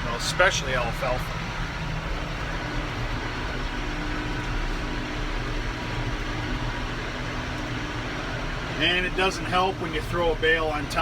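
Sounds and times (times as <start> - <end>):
faint steady whine: 0.0 - 11.0
tractor engine running: 0.0 - 11.0.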